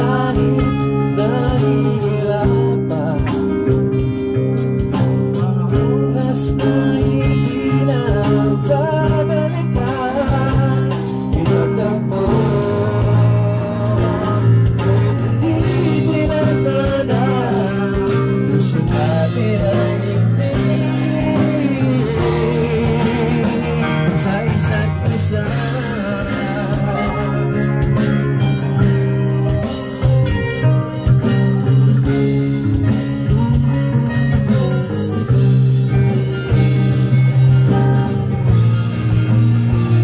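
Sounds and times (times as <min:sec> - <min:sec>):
electric bass guitar: 0:00.0 - 0:40.0
electronic drum kit: 0:00.0 - 0:40.0
keyboard: 0:00.0 - 0:40.0.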